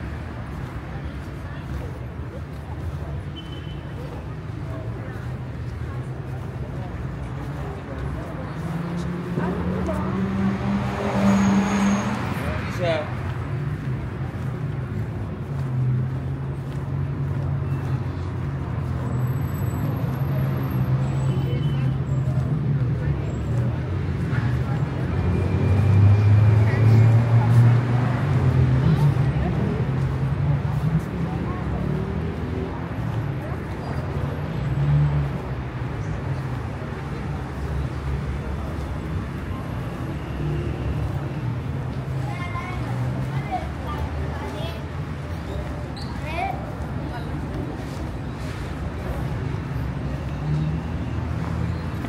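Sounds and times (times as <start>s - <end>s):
street traffic: 0.0s - 52.0s.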